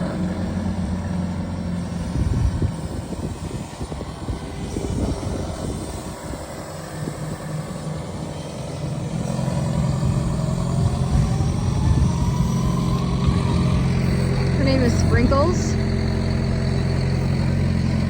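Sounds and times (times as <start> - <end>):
faint rising whine: 0.0 - 18.0
tractor engine running: 0.0 - 18.0.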